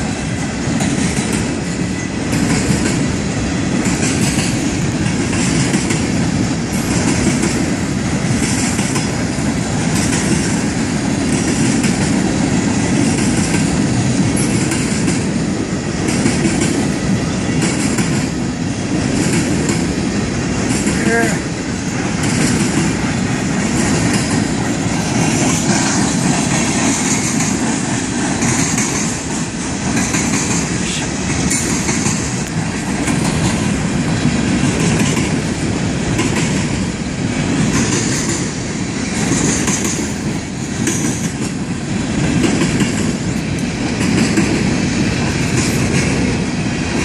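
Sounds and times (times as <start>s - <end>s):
steel wheels clattering over rail joints: 0.0s - 47.0s.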